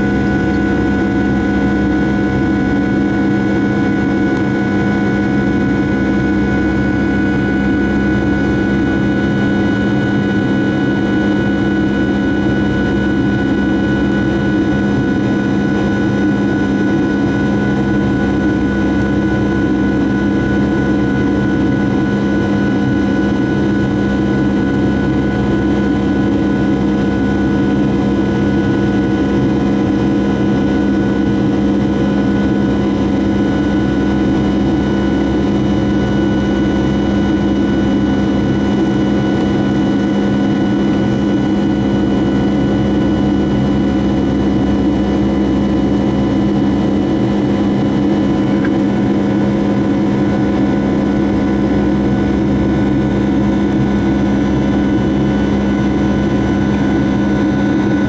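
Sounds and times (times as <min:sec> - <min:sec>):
jet cabin drone: 0:00.0 - 0:58.0.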